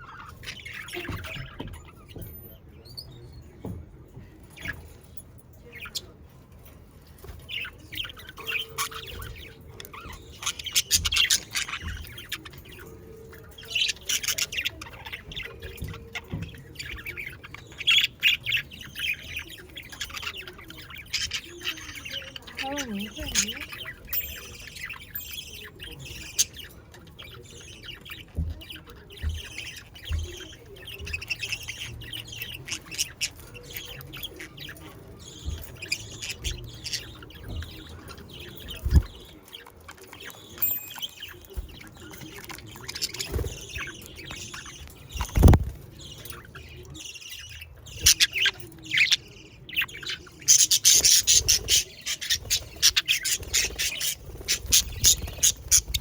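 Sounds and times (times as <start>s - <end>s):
budgerigars chirping and squawking: 0.0s - 56.0s.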